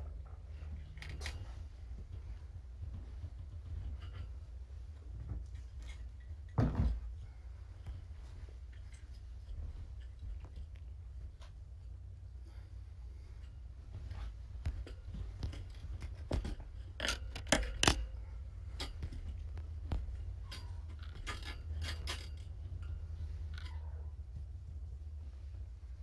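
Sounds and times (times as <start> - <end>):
kittens scrabbling and playing: 0.0 - 26.0
steady low hum: 0.0 - 26.0.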